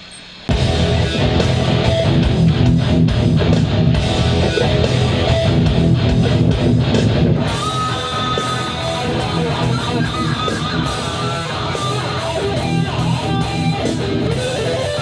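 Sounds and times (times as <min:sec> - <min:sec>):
metal electric guitar riff: 0:00.5 - 0:15.0.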